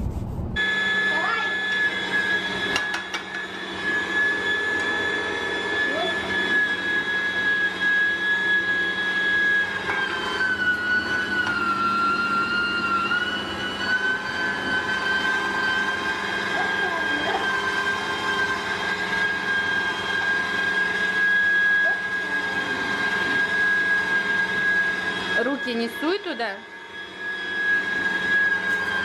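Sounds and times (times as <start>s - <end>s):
meat grinder motor whining: 0.6s - 29.0s.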